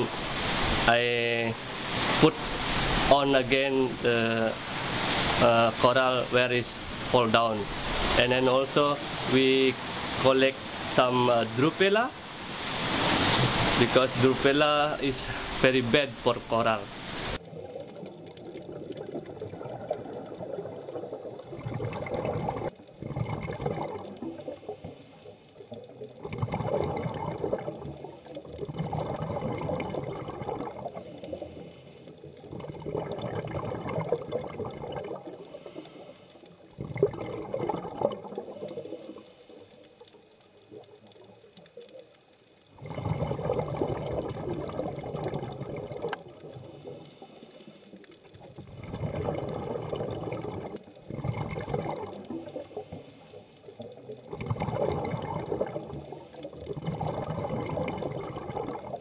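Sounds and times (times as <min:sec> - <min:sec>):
underwater air bubbling: 0:00.0 - 0:59.0.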